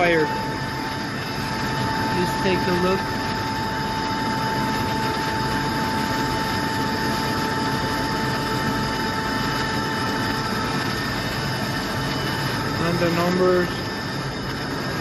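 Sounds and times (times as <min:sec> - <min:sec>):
machinery drone: 0:00.0 - 0:15.0
steady high whine: 0:00.0 - 0:15.0.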